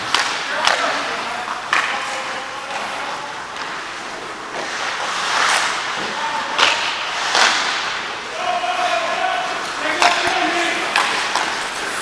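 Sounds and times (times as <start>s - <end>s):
skate blades scraping ice: 0.0s - 12.0s.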